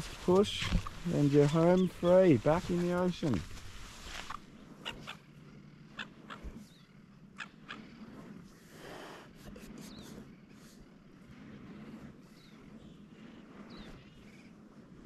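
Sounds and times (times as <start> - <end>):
scraping on sand: 0.0 - 5.1, 7.8 - 15.0.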